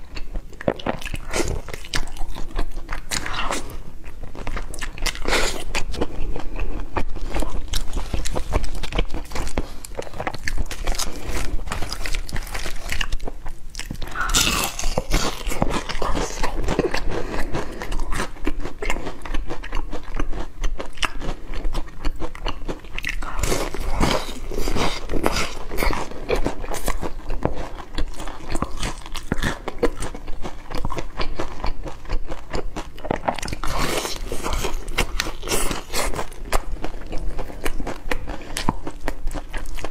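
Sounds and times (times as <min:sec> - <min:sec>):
chewing crispy fried chicken: 0:00.0 - 0:39.9.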